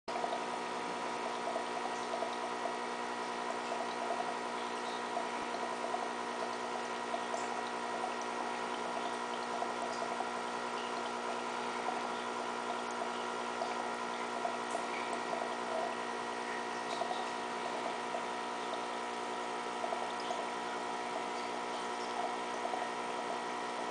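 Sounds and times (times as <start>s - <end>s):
aquarium pump hum: 0.1s - 23.9s
water bubbling and trickling: 0.1s - 23.9s.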